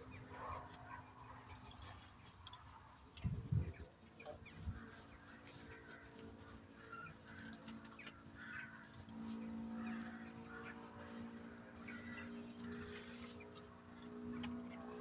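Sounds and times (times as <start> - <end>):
birds calling hoarsely: 0.0 - 15.0
low steady hum: 0.0 - 15.0.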